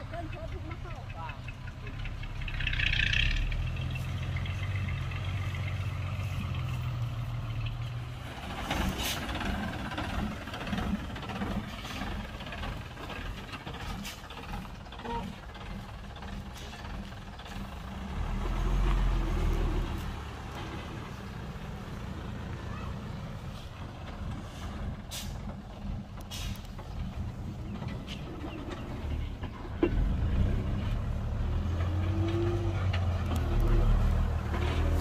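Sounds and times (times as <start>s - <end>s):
diesel truck engine rumbling: 0.0s - 35.0s.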